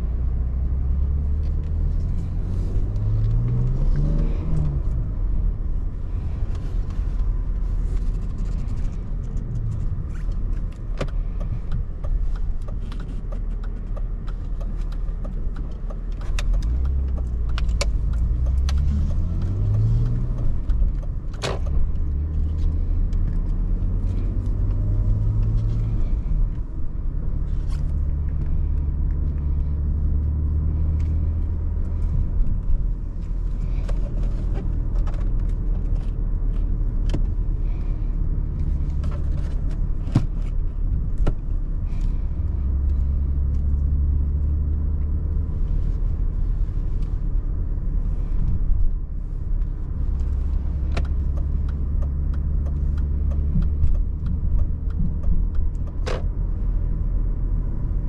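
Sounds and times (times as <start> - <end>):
car engine revving: 0.0 - 58.0
road rumble: 0.0 - 58.0.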